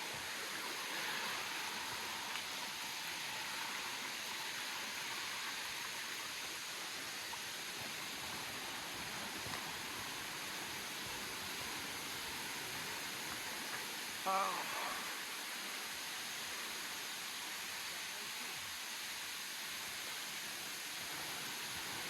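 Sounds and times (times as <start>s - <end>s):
waterfall and river rushing: 0.0s - 22.0s.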